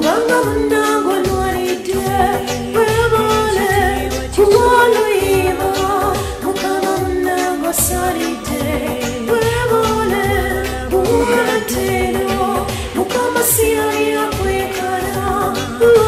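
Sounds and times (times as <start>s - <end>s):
backing music with bass line: 0.0s - 16.0s
person singing: 0.0s - 16.0s.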